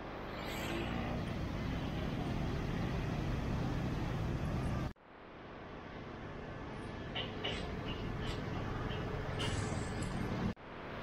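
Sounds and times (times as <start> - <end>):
road traffic rumble: 0.0 - 5.0, 5.9 - 11.0.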